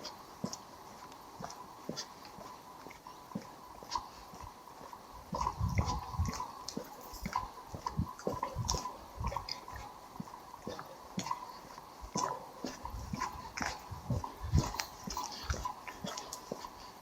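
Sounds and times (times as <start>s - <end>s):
footsteps walking: 0.0s - 17.0s.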